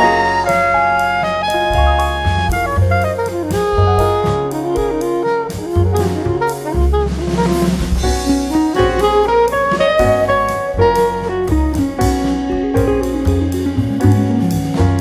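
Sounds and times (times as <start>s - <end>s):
drum kit beat: 0.0s - 15.0s
instrumental melody: 0.0s - 15.0s.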